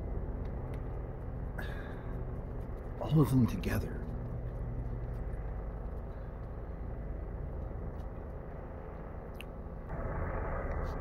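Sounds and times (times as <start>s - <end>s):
distant traffic rumble: 0.0s - 11.0s
helicopters droning overhead: 0.0s - 11.0s.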